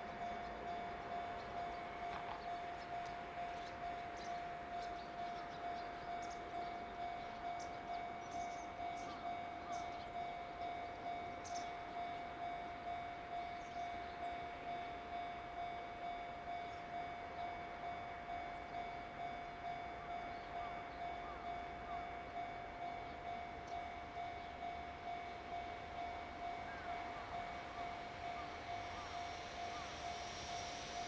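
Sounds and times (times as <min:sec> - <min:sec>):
level-crossing alarm bell pulsing: 0:00.0 - 0:31.0.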